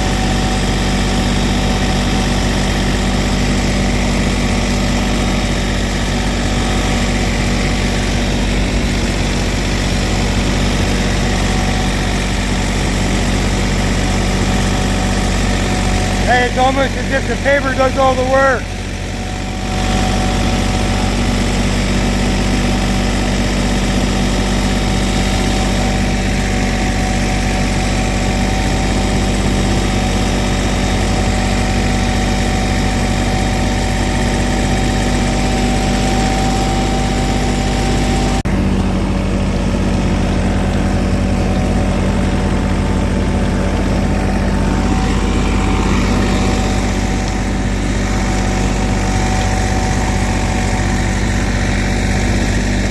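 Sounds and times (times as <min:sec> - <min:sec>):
steady whine: 0:00.0 - 0:39.3, 0:40.3 - 0:52.9
diesel engine running: 0:00.0 - 0:52.9.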